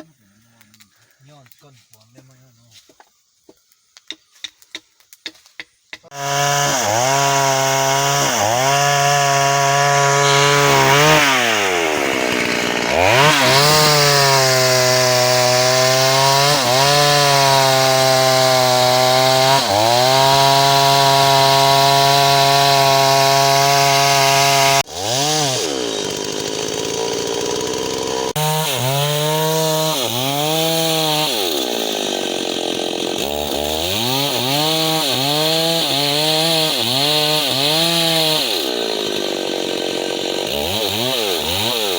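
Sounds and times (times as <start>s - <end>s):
chainsaw cutting wood: 4.4s - 41.9s.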